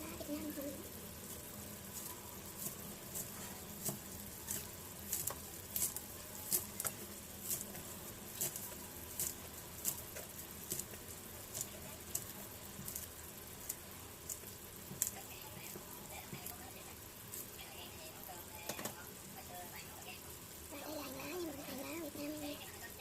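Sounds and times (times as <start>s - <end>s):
faint sizzle: 0.0s - 23.0s.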